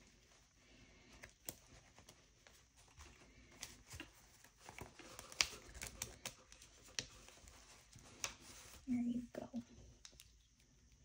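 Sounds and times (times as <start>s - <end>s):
stiff fabric rustling: 0.0s - 9.5s.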